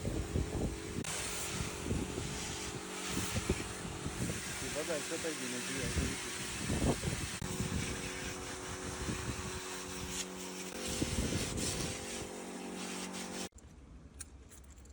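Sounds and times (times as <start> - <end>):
hiss: 0.0 - 13.5
motor running: 0.0 - 13.5.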